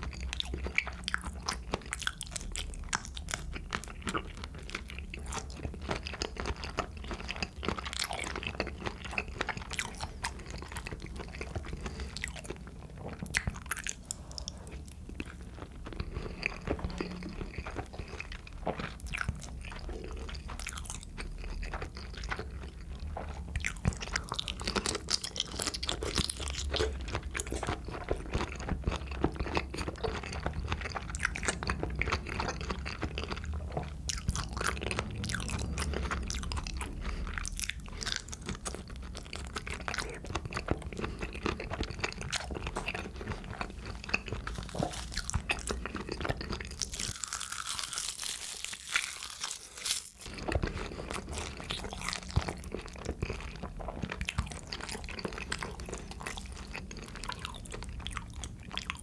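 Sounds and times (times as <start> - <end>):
chewing and biting shrimp: 0.0 - 59.0.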